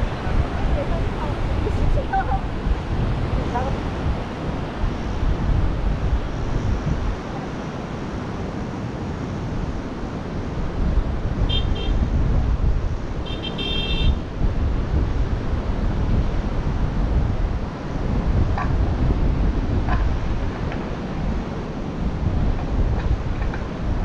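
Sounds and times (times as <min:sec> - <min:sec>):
beach surf: 0:00.0 - 0:24.0
wind buffeting microphone: 0:00.0 - 0:24.0.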